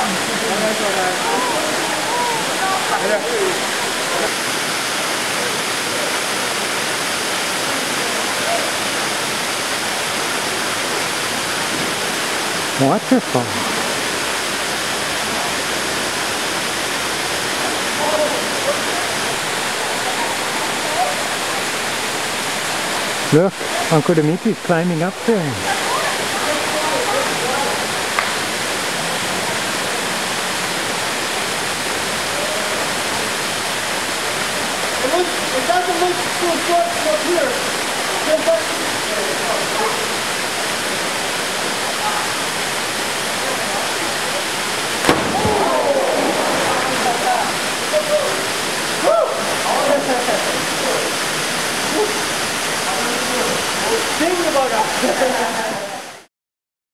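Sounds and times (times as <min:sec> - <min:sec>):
waterfall rushing: 0:00.0 - 0:56.3.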